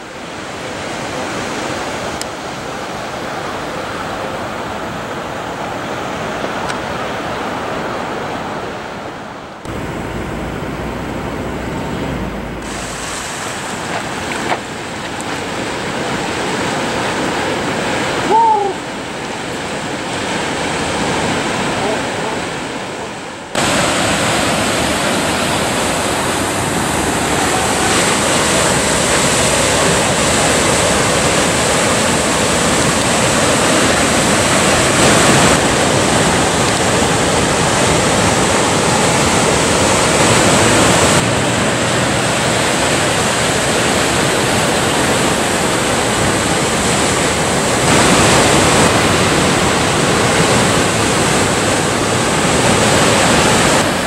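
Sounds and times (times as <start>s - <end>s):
waves breaking: 0.0s - 54.0s.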